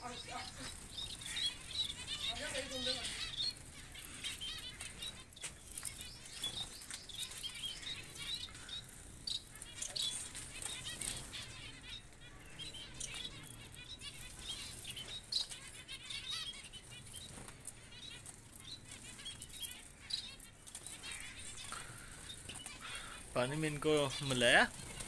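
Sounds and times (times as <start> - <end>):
finches chirping and twittering: 0.0 - 25.0
wing flutters: 0.0 - 25.0.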